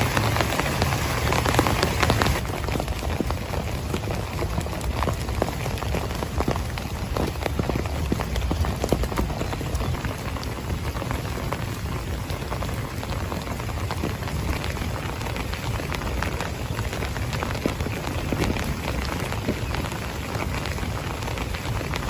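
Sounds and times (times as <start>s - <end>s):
heavy rain: 0.0s - 22.0s
raindrops tapping: 0.0s - 22.0s.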